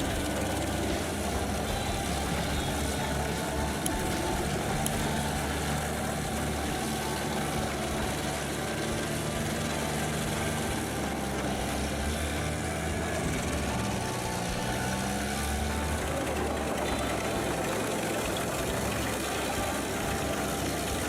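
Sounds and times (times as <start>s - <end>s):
wood chipper running: 0.0s - 21.0s.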